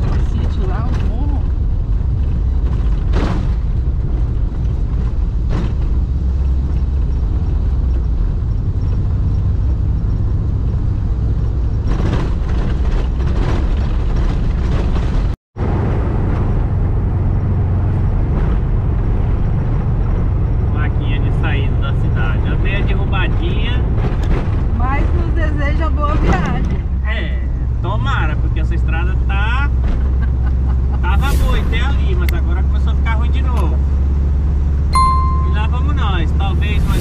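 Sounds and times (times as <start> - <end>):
van engine and road rumble: 0.0 - 37.0.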